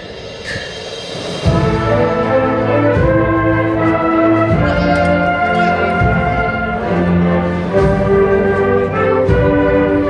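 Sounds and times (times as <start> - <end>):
brass and drum band playing a march: 1.2 - 10.0.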